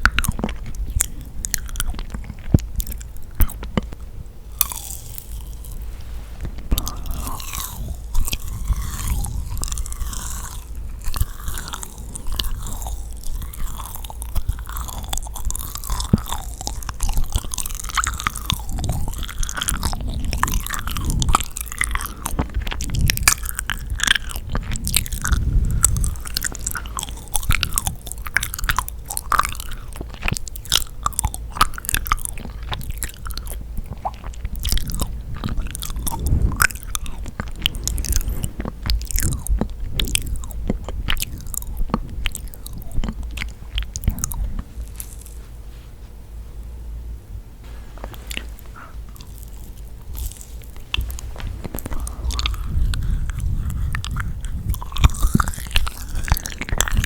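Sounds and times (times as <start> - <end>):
sticky wet chewing: 0.0 - 45.5, 47.9 - 57.0.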